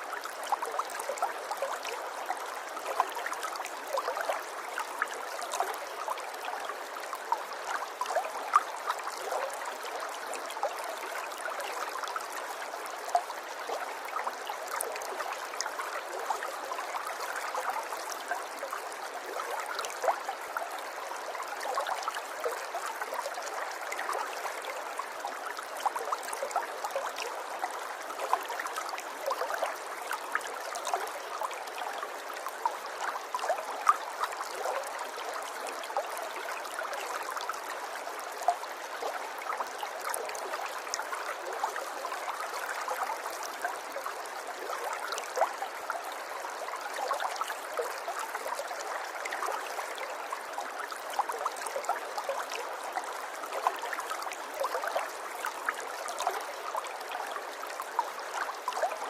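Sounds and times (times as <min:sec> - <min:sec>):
river water flowing and trickling: 0:00.0 - 0:59.0.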